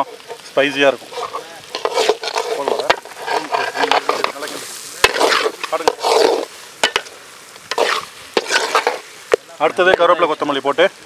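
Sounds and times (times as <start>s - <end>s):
ladle scraping metal pan: 0.0s - 9.2s
food sizzling: 0.0s - 11.0s.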